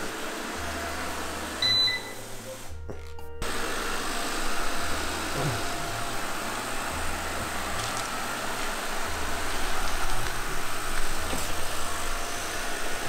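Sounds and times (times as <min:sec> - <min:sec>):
robot vacuum cleaner humming: 0:00.0 - 0:13.0.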